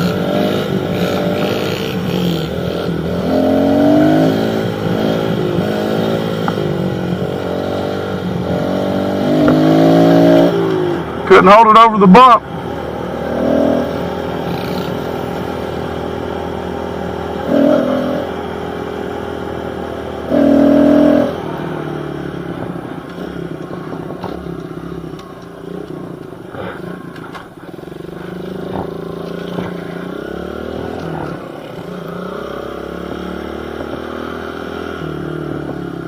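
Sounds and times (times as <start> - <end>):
pit bike engine revving: 0.0 - 36.0.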